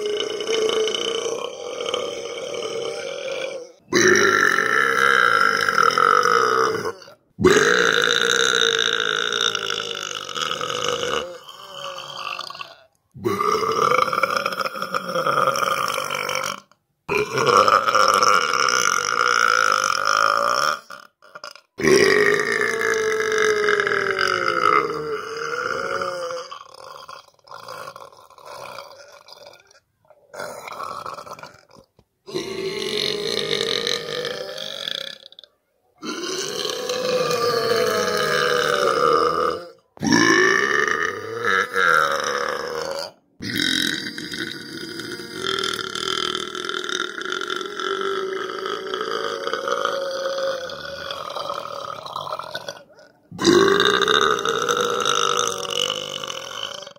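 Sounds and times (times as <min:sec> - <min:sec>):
long pitched vocal sounds: 0:00.0 - 0:56.9.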